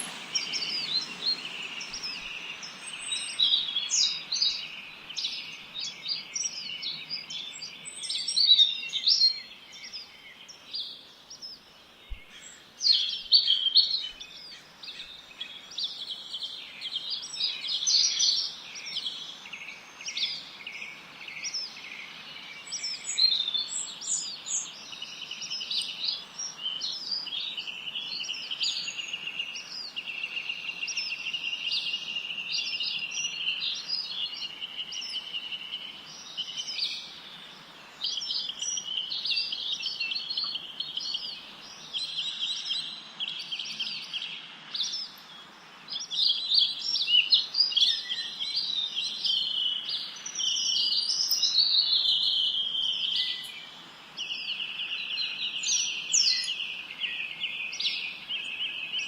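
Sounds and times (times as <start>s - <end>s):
faint steady hiss: 0.0s - 59.0s
songbirds singing and chirping: 0.0s - 59.0s.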